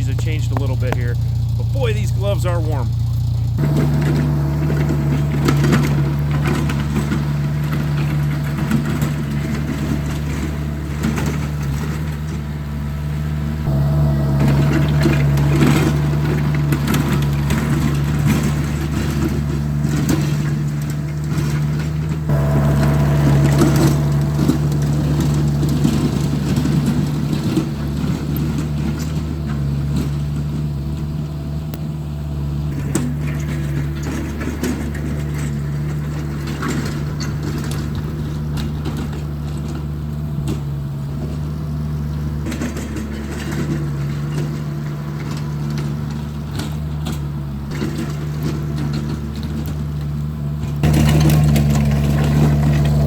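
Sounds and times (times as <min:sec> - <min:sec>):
loader engine running: 0:00.0 - 0:53.0.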